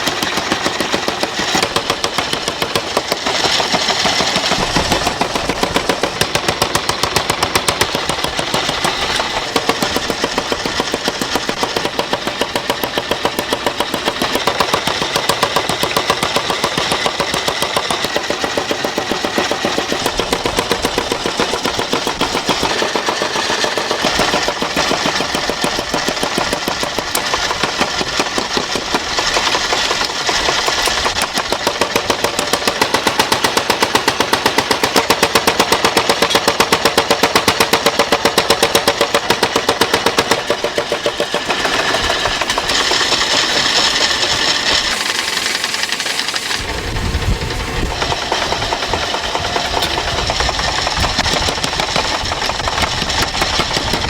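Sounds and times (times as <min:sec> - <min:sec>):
machine rattling: 0:00.0 - 0:54.0.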